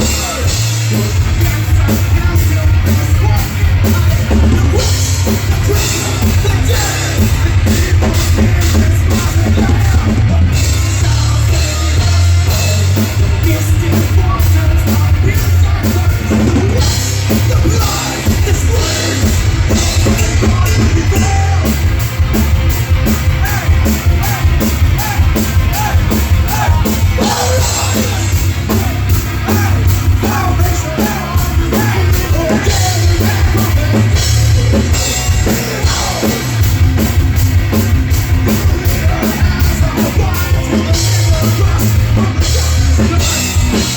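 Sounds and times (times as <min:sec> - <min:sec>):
heavy rock band playing: 0:00.0 - 0:43.9
rapid drum strokes: 0:00.0 - 0:43.9.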